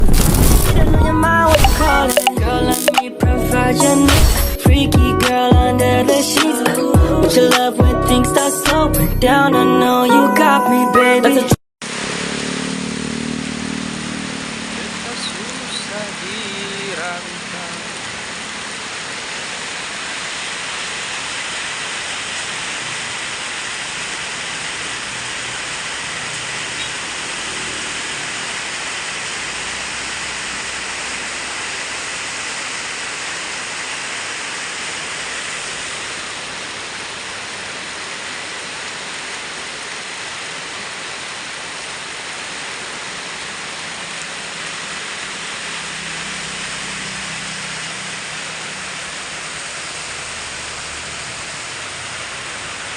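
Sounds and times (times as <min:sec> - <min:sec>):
heavy rain falling: 0:00.0 - 0:02.9, 0:11.8 - 0:52.9.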